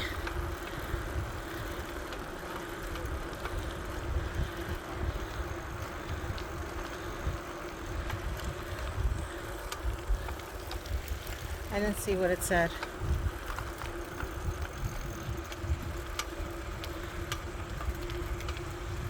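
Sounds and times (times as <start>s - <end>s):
bicycle tyre hum: 0.0s - 19.0s
wind buffeting microphone: 0.0s - 19.0s.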